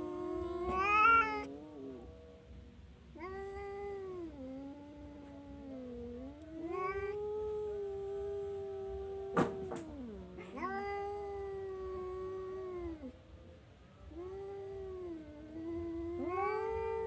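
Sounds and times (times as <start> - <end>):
cat yowling: 0.0 - 2.3, 3.1 - 13.2, 14.0 - 17.0.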